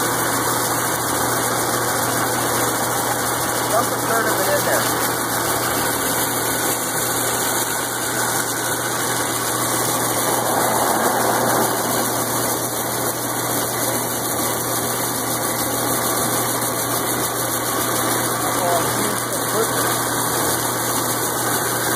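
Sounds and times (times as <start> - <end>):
machine humming and whirring: 0.0 - 21.9.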